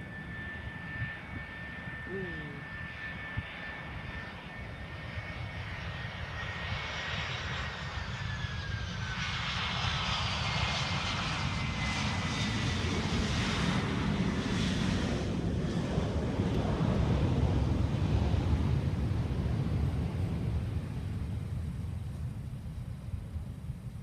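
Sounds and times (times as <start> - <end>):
jet engine whine: 0.0 - 24.0
low jet engine rumble: 0.0 - 24.0.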